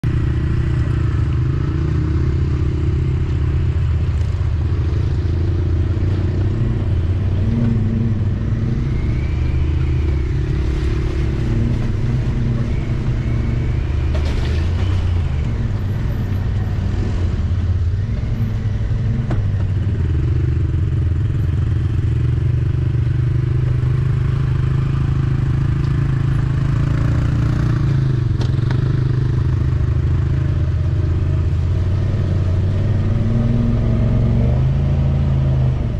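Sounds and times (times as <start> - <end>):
off-road vehicle engine running: 0.0 - 35.9.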